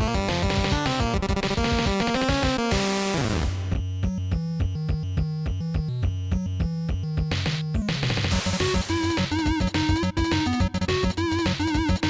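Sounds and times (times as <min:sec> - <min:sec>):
chiptune music: 0:00.0 - 0:12.0.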